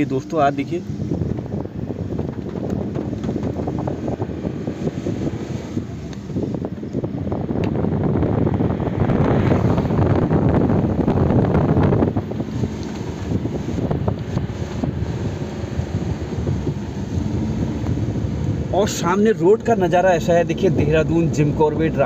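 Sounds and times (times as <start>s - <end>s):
moving vehicle running noise: 0.0s - 22.0s
wind buffeting microphone: 0.0s - 22.0s.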